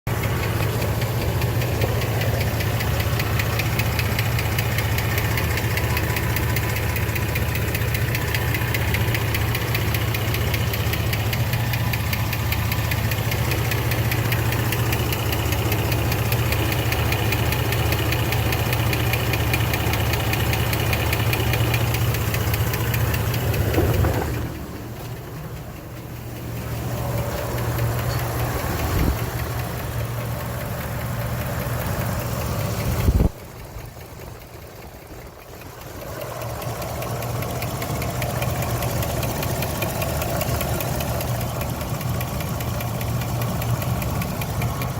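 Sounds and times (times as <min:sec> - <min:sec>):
car engine idling: 0:00.0 - 0:44.9
rapid valvetrain ticking: 0:00.1 - 0:44.9.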